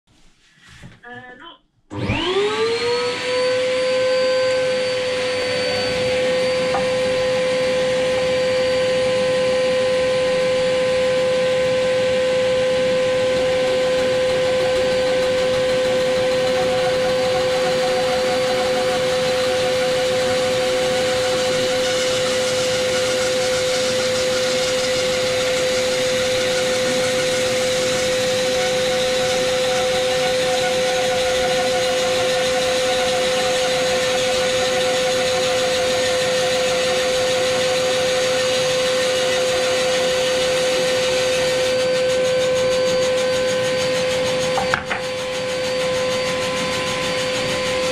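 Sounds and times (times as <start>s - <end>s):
bandsaw motor whine: 1.9s - 47.9s
saw blade cutting wood: 2.1s - 9.2s, 11.9s - 47.9s.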